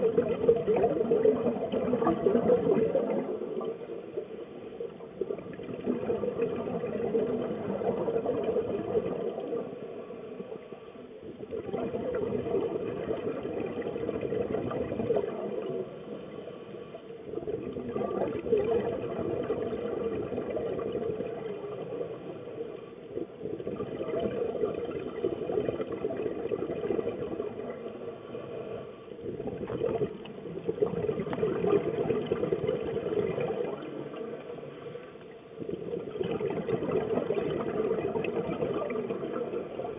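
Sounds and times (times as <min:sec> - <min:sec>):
regulator air bubbles underwater: 0:00.0 - 0:39.9.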